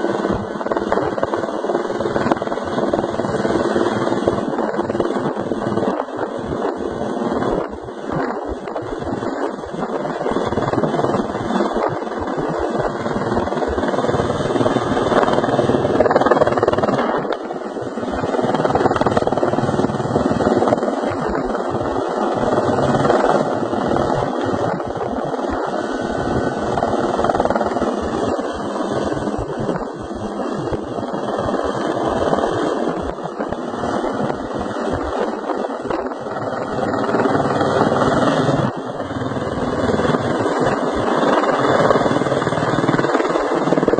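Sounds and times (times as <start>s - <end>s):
helicopter rotor and engine: 0.0s - 43.9s.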